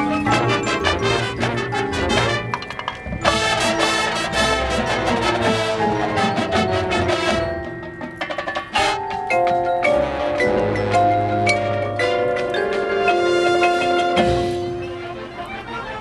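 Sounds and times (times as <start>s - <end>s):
marimba and bells: 0.0s - 15.8s
marching band playing: 0.0s - 16.0s.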